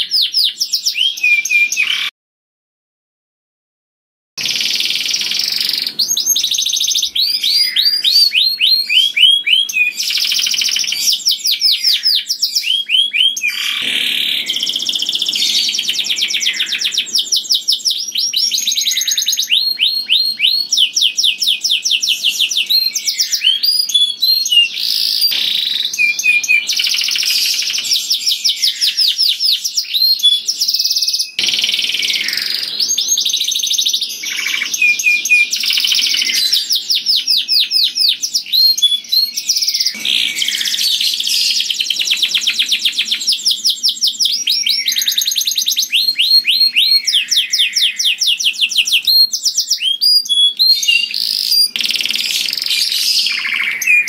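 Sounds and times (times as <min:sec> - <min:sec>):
canary singing trills: 0:00.0 - 0:02.1, 0:04.4 - 0:54.0.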